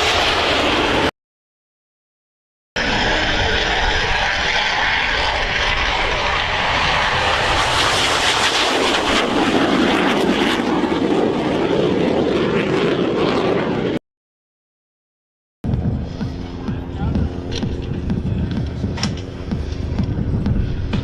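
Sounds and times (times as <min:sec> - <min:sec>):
aircraft engine roar: 0:00.0 - 0:01.1, 0:02.8 - 0:14.0, 0:15.6 - 0:21.0.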